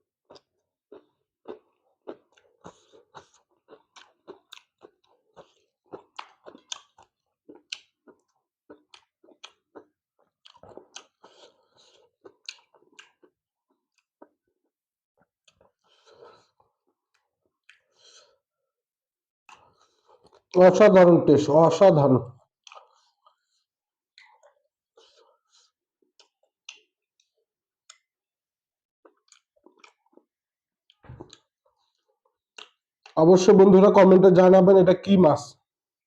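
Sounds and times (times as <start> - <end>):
person chewing and crunching food: 0.1 - 18.7, 19.5 - 20.6, 22.4 - 28.3, 29.0 - 33.2.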